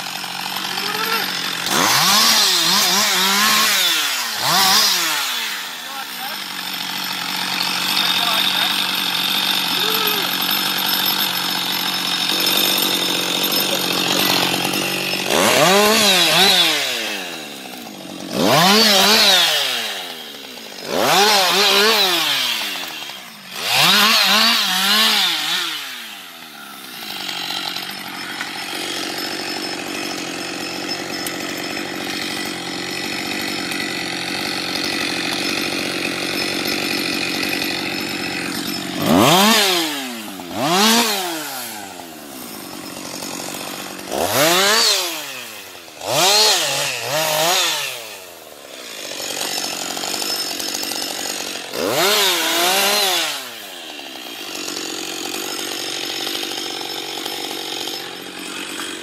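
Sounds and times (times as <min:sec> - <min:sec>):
chainsaw idling: 0:00.0 - 0:59.0
chainsaw revving: 0:00.0 - 0:59.0.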